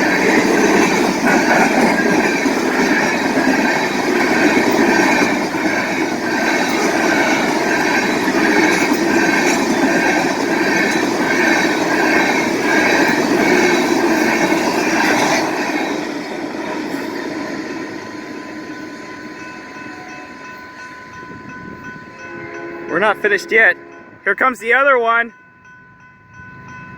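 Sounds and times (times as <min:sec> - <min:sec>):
freight train wheels clattering: 0:00.0 - 0:22.8
crossing bell ringing: 0:00.0 - 0:26.9.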